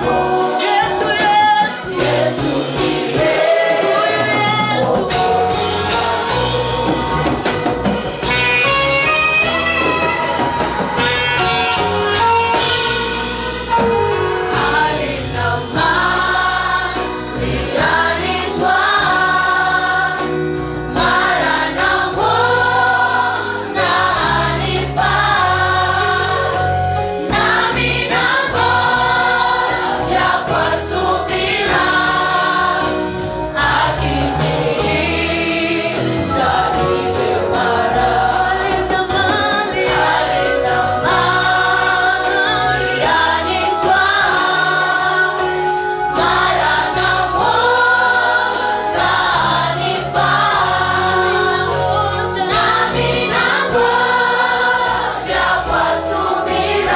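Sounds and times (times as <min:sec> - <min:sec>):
band bass and beat: 0:00.0 - 0:56.9
choir singing gospel song: 0:00.0 - 0:56.9.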